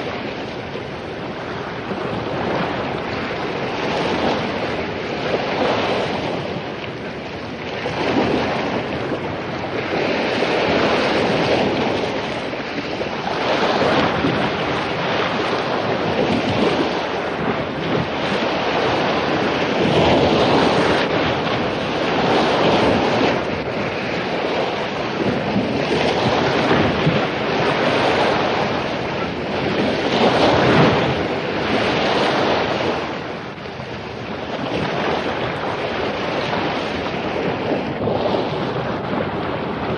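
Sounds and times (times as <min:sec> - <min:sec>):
ocean waves crashing: 0:00.0 - 0:39.9
wind noise on microphone: 0:00.0 - 0:39.9.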